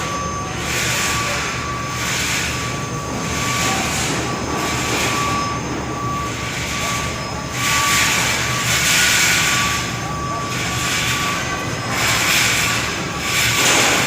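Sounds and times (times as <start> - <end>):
mechanical roar with high whine: 0.0 - 14.0.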